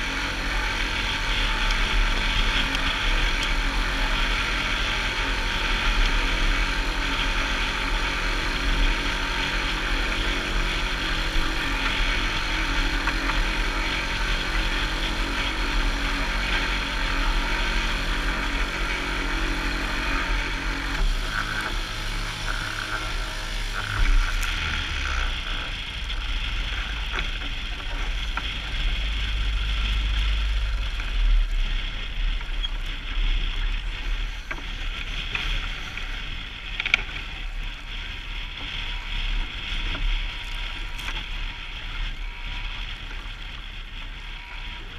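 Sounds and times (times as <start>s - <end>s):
steady low hum: 0.0s - 44.9s
water rushing along hull: 0.0s - 44.9s.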